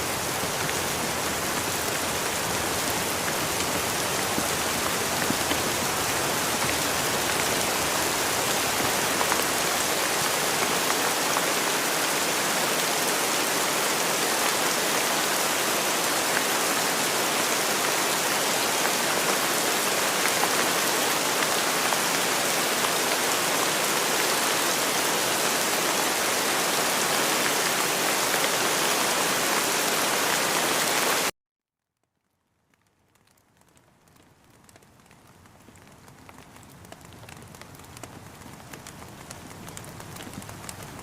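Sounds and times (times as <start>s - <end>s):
dense rain falling: 0.0s - 31.3s, 32.7s - 41.0s.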